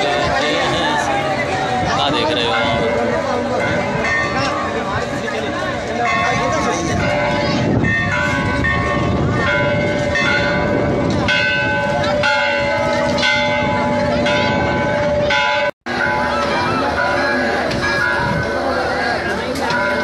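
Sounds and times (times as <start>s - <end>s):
crowd chattering: 0.0s - 20.0s
temple bells ringing: 0.0s - 20.0s.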